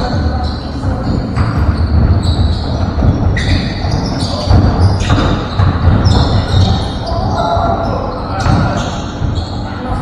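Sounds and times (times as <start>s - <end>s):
basketball dribbling on gym court: 0.0s - 10.0s.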